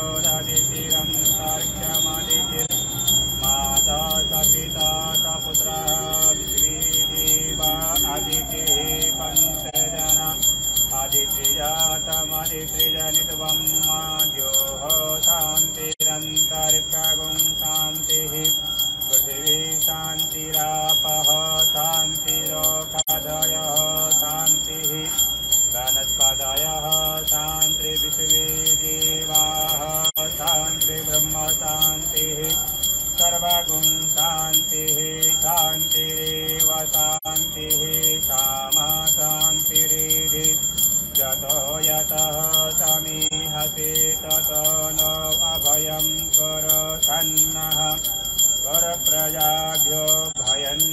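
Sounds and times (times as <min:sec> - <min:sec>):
bells ringing: 0:00.0 - 0:50.9
wavering devotional melody: 0:00.0 - 0:50.9.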